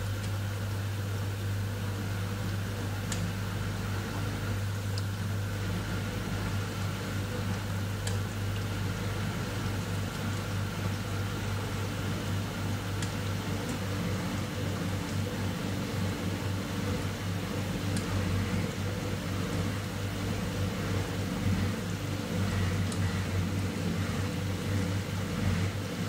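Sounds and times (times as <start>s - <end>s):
dishwasher low hum: 0.0s - 26.0s.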